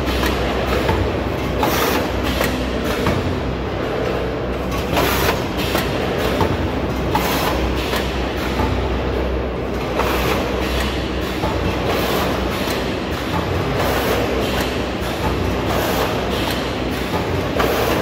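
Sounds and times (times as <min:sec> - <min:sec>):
packing machine clatter: 0:00.0 - 0:18.0.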